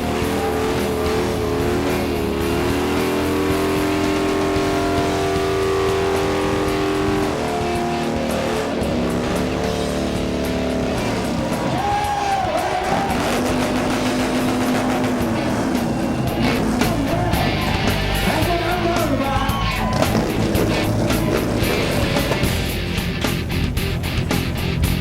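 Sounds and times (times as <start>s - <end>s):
rising and falling squeal: 0.0s - 23.3s
motorcycle engines running: 0.0s - 25.0s
music: 0.0s - 25.0s.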